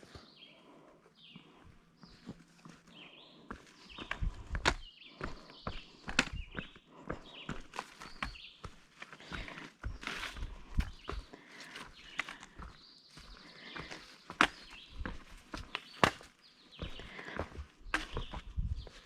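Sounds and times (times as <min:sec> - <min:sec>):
footsteps on forest trail: 0:00.0 - 0:19.0.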